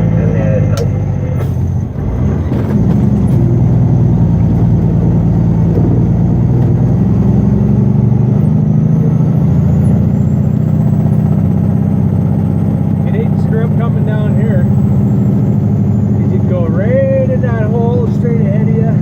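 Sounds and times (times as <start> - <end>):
heavy diesel truck engine from cab: 0.0 - 19.0.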